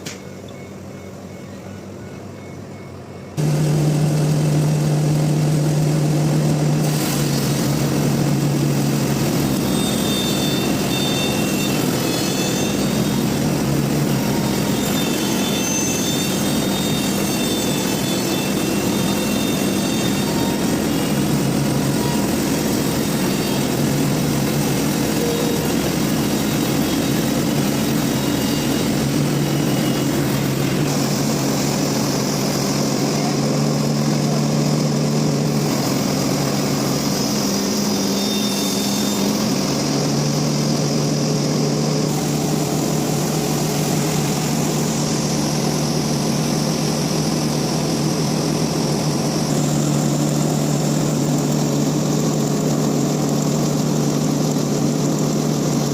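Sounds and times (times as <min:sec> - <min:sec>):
sawmill machinery droning: 0:00.0 - 0:55.9.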